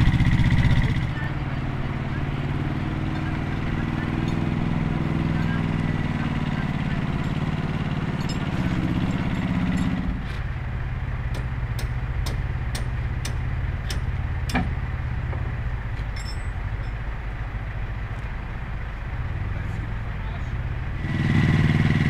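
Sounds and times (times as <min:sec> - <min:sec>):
large engine idling: 0:00.0 - 0:22.0.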